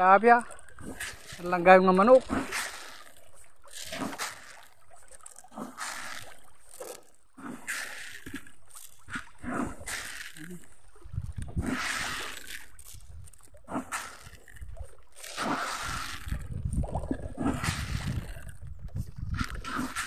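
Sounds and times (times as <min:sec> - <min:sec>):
water splashes from rising fish: 0:00.0 - 0:20.0.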